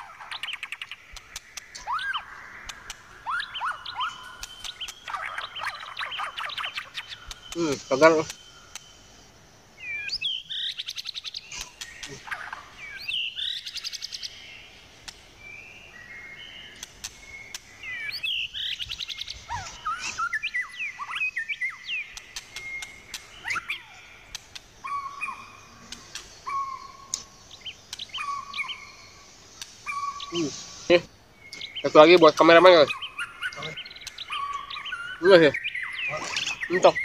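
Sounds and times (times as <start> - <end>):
birds trilling and whistling: 0.0 - 37.0.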